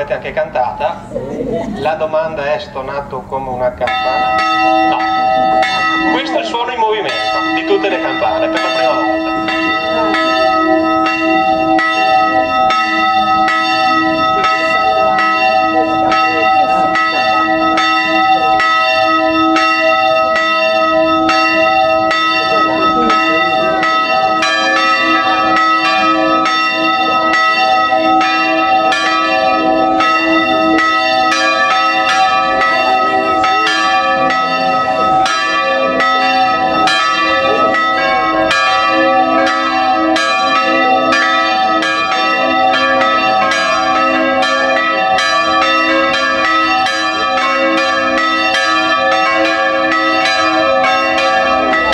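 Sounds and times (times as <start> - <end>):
church bells ringing: 0.0 - 1.0, 1.8 - 51.9.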